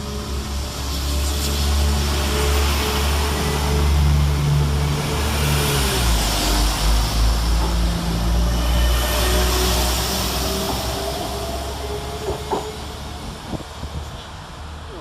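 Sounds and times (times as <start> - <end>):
diesel train engines running: 0.0 - 15.0.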